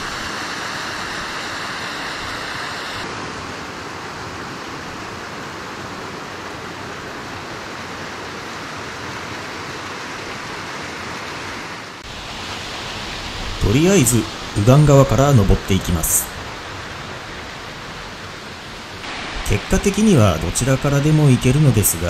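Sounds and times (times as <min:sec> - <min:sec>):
stream cascading over rocks: 0:00.0 - 0:22.0.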